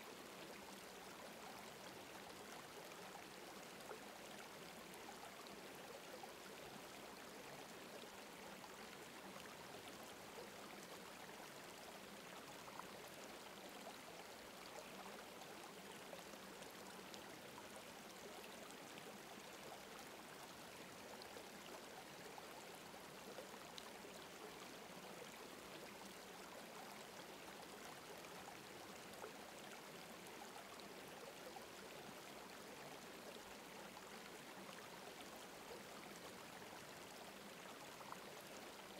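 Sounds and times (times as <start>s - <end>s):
faint running water: 0.0s - 38.9s.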